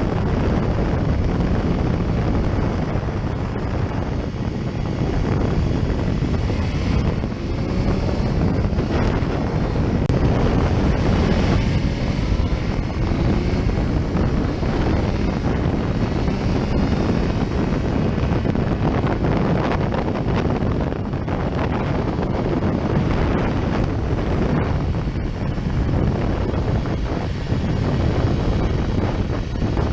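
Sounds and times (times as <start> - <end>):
motorcycle engine running: 0.0 - 29.9
wind buffeting microphone: 0.0 - 29.9.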